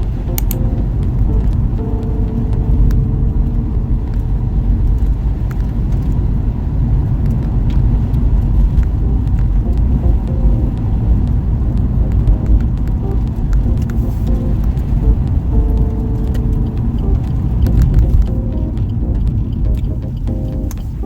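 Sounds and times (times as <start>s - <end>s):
faint humming tone: 0.0s - 6.7s, 7.9s - 21.0s
car engine and road rumble: 0.0s - 21.0s.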